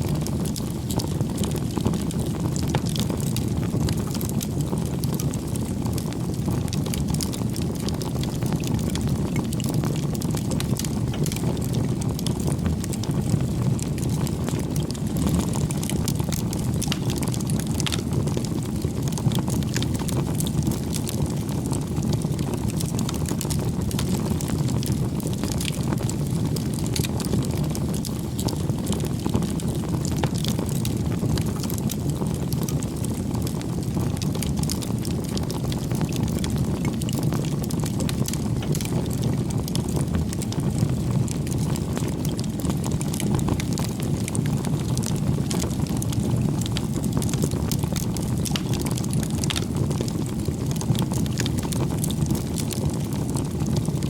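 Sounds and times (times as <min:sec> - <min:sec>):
burning wood crackling and popping: 0:00.0 - 0:54.0
low rush of flames: 0:00.0 - 0:54.0.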